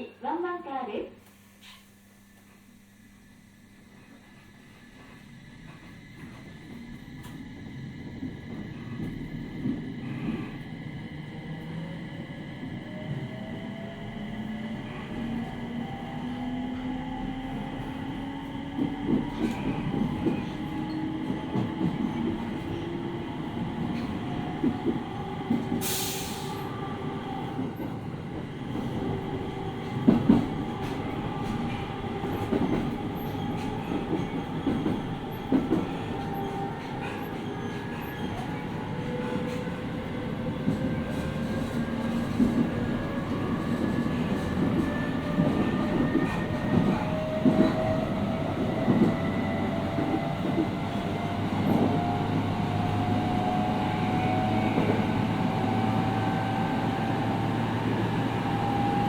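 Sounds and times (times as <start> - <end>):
train car rumble: 3.6 - 59.0.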